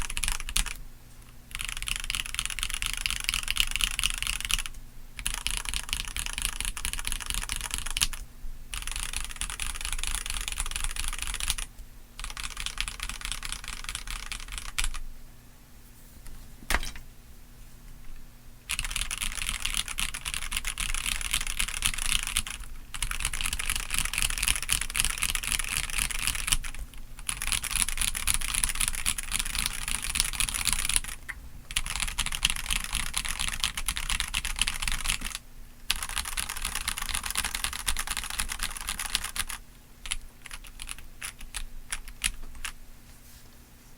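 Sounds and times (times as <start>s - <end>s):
mechanical keyboard typing: 0.0s - 0.8s, 1.5s - 15.0s, 18.7s - 42.8s.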